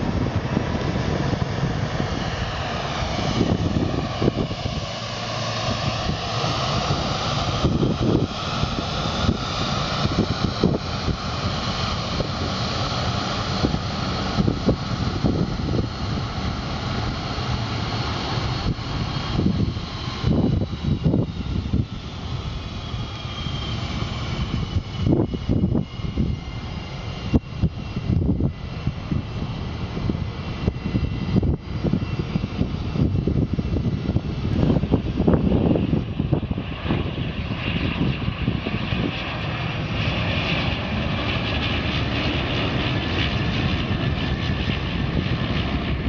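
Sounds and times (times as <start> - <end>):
jet engines roaring and whining: 0.0 - 46.0
wind noise on microphone: 0.0 - 46.0.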